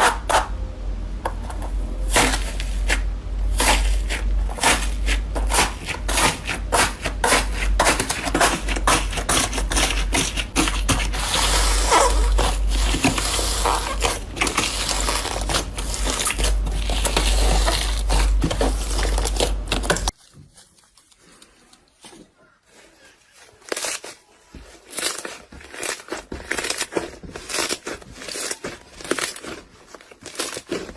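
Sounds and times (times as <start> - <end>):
crunchy material crushed by hand: 1.9 - 21.2, 23.0 - 30.9.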